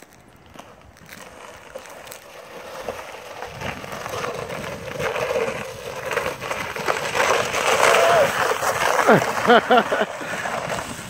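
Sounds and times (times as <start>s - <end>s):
plastic sled scraping on ice: 0.0s - 11.0s.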